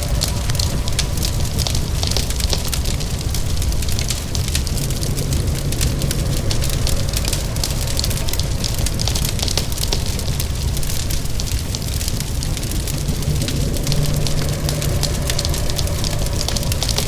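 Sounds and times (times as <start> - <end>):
low rumble: 0.0 - 17.0
rain hissing: 0.0 - 17.0
wood fire crackling: 0.0 - 17.0.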